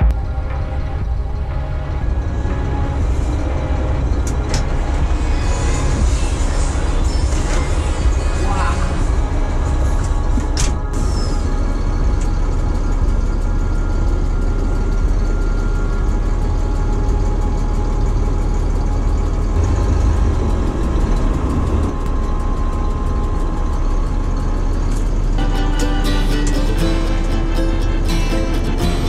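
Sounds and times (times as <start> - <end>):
truck diesel engine rumble: 0.0 - 29.0.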